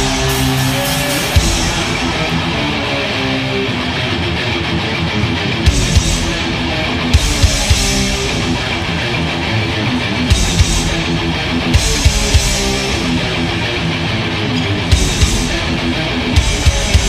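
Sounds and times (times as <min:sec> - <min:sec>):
heavy metal band playing live: 0:00.0 - 0:17.0.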